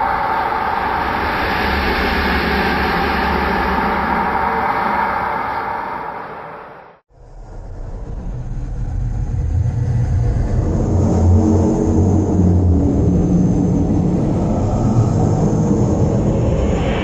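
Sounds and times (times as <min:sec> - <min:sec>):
deep rumbling creature drone: 0:00.0 - 0:17.0
deep wavering hum: 0:00.0 - 0:17.0.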